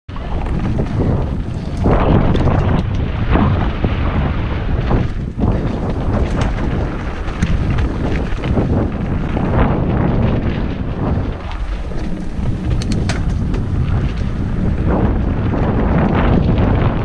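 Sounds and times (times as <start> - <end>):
bike rattling over bumps: 0.1 - 17.0
wind rumble on microphone: 0.1 - 17.0.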